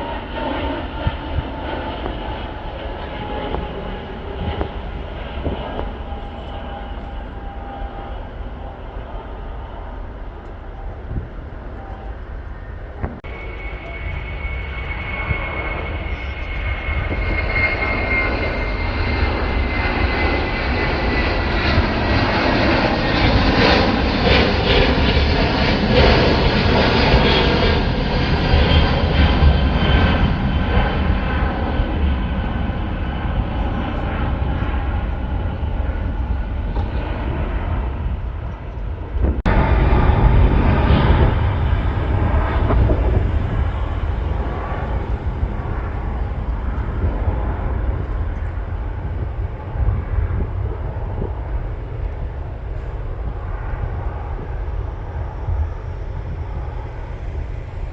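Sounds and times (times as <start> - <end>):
high jet whine: 0.0 - 57.9
jet engine rumble: 0.0 - 57.9.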